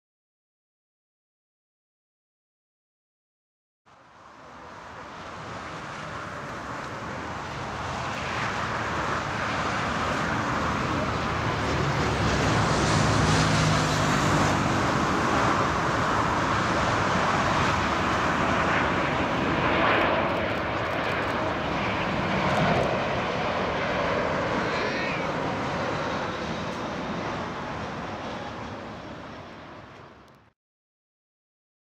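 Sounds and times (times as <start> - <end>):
jet engines roaring: 3.9 - 30.5.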